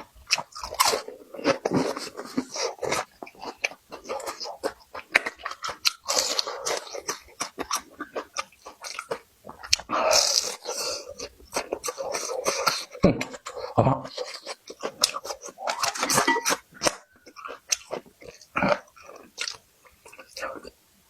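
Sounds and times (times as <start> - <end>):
person chewing crunchy food: 0.0 - 20.8.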